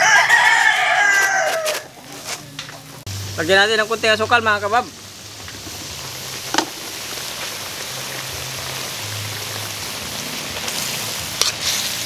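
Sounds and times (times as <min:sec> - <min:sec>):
meat sizzling and bubbling in broth: 0:00.0 - 0:12.0.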